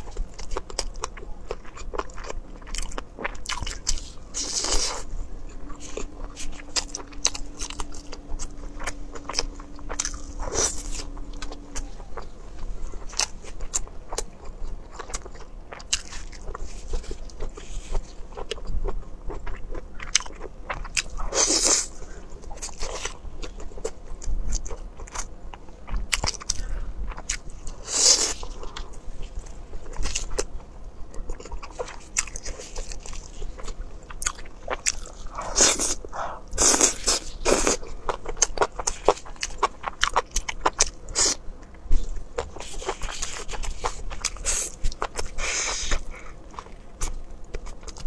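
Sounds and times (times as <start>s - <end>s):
close-miked chewing and biting: 0.0s - 48.0s.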